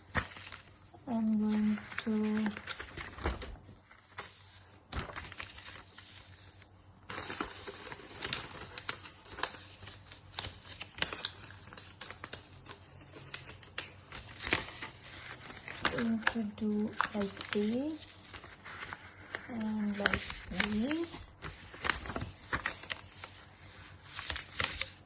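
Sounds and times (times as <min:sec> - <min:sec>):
paper crinkling and rustling: 0:00.0 - 0:25.0.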